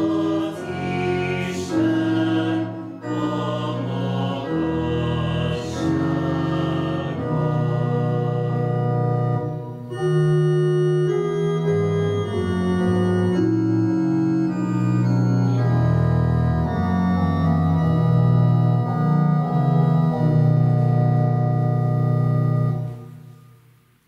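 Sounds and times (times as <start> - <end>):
organ playing hymn chords: 0.0 - 23.8.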